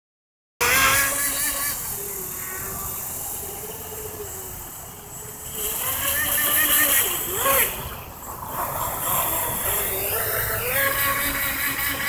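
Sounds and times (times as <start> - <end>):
electric motor whine: 0.6 - 12.0.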